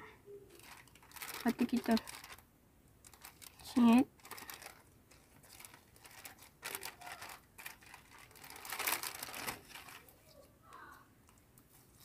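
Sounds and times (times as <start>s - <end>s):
plastic packaging crinkling: 0.5s - 2.4s, 3.0s - 10.8s.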